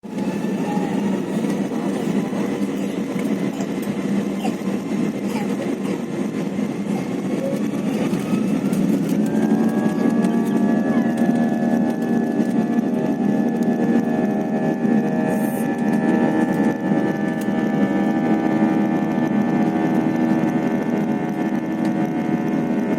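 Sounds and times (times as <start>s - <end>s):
airliner engines droning: 0.0s - 22.9s.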